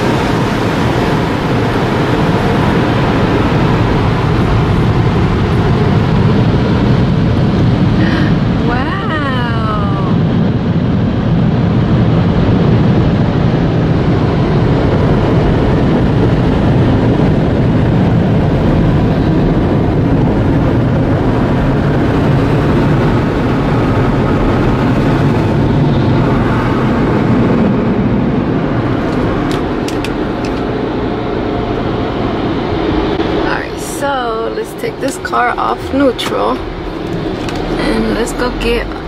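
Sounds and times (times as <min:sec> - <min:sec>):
car wash dryer blowers rushing: 0:00.0 - 0:39.0.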